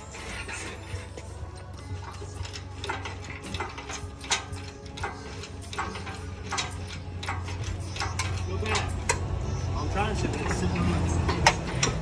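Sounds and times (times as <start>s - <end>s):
engine hoist metallic clicks: 0.0s - 9.5s, 10.1s - 12.0s.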